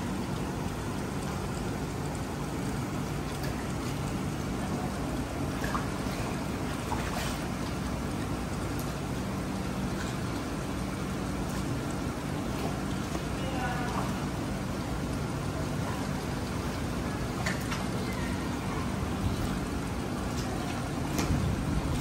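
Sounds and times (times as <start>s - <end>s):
running water: 0.0s - 22.0s
water splashes: 0.0s - 22.0s.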